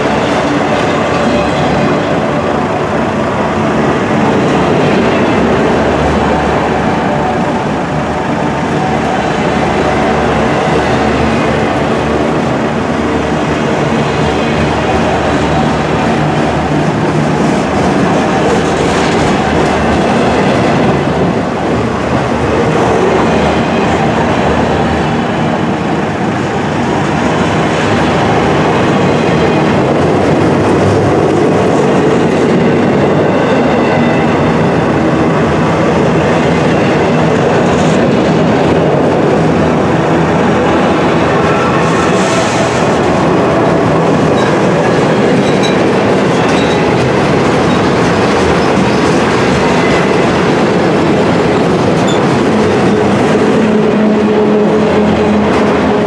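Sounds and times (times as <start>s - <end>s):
rail clacks: 0.0s - 56.0s
train wheels rolling on rails: 0.0s - 56.0s.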